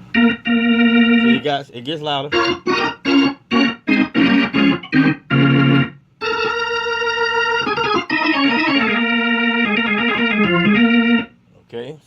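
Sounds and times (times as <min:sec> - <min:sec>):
organ chords through rotating speaker: 0:00.0 - 0:01.5, 0:02.3 - 0:11.4.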